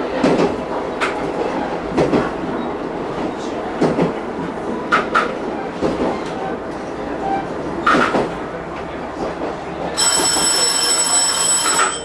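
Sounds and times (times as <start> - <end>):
railcar rumbling: 0.0 - 12.0.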